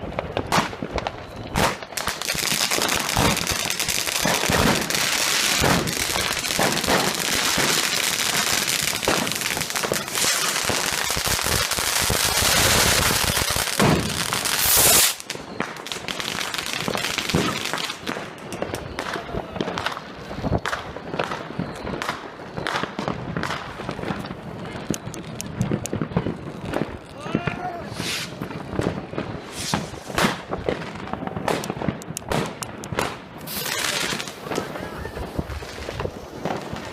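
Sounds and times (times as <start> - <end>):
fireworks crackling and banging: 0.0 - 36.9.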